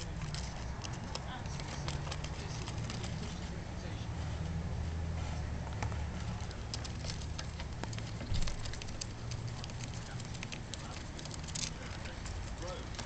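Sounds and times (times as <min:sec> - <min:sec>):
hamster gnawing paper: 0:00.0 - 0:04.5, 0:05.5 - 0:13.0.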